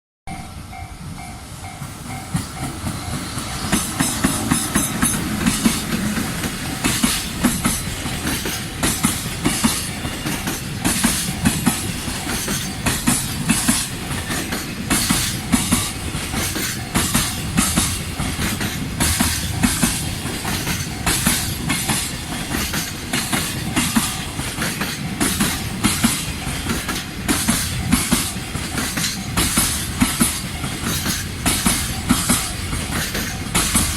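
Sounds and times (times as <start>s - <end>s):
level crossing warning bell: 0.3s - 33.9s
train wheels clattering over rail joints: 1.7s - 33.9s.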